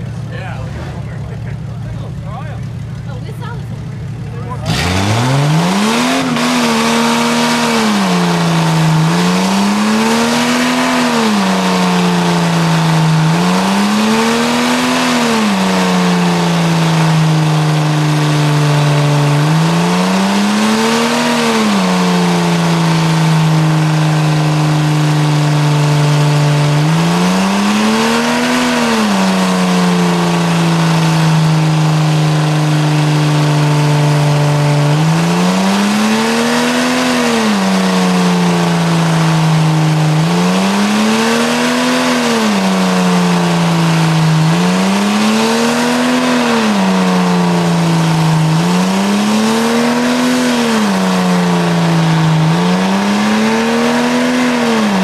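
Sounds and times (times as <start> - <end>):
engine revving high: 4.4 - 55.0.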